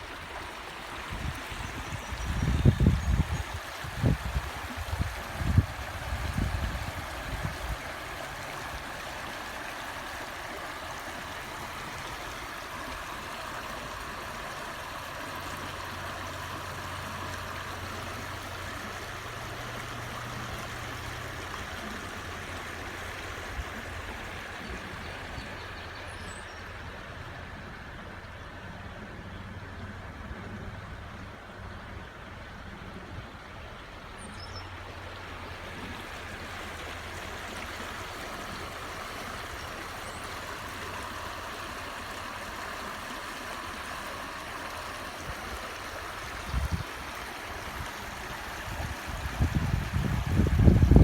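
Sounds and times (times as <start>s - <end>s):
river water rushing: 0.0s - 51.0s.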